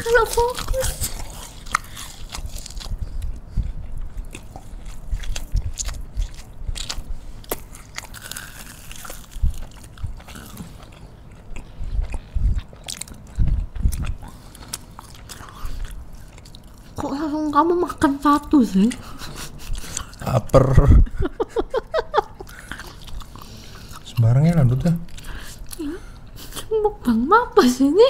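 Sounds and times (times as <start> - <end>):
biting and chewing crunchy food: 0.0 - 17.3, 18.8 - 20.8, 22.4 - 26.7.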